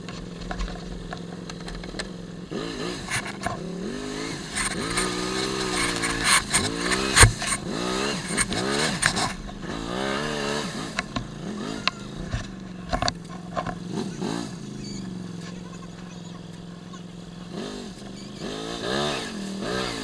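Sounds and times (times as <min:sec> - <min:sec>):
quad engine revving in bursts: 0:01.0 - 0:20.0.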